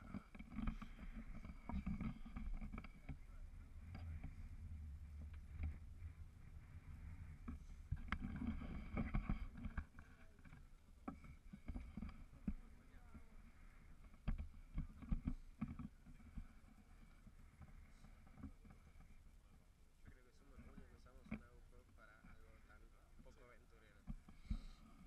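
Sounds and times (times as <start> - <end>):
boat engine hum: 0.0 - 25.0.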